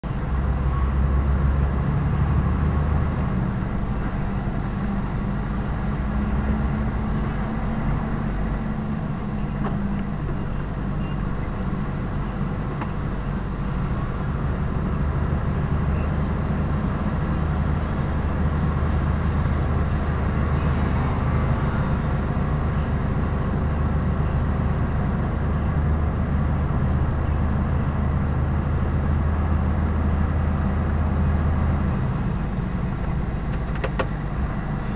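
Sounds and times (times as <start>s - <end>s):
truck diesel engine droning: 0.0s - 34.9s.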